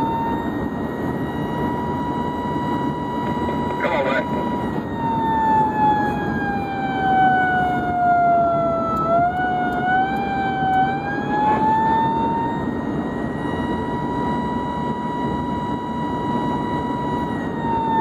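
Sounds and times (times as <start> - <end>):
emergency siren tone: 0.0 - 18.0
road and engine noise: 0.0 - 18.0.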